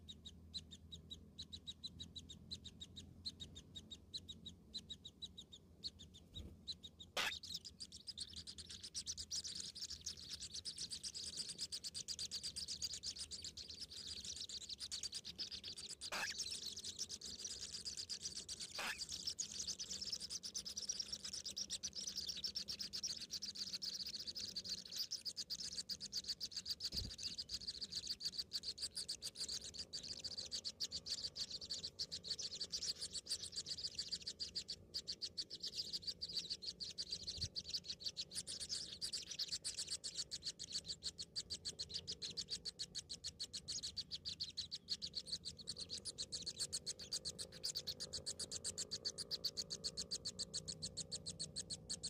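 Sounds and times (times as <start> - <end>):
nestlings begging chirring: 0.0 - 52.0.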